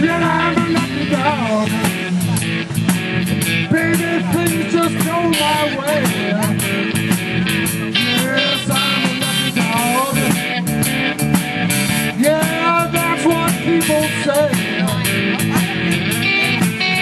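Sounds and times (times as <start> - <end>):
drums and cymbals: 0.0 - 17.0
electric guitar lead: 0.0 - 17.0.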